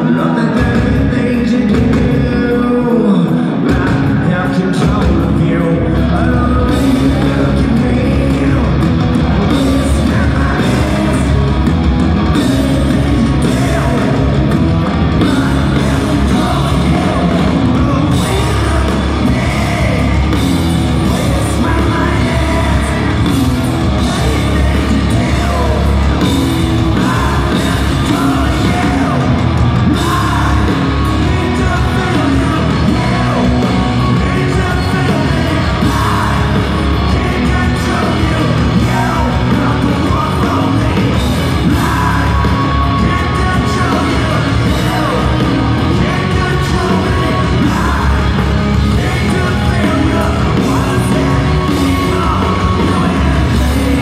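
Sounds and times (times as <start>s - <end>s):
bass: 0.0s - 54.0s
distorted electric guitars: 0.0s - 54.0s
drums: 0.0s - 54.0s.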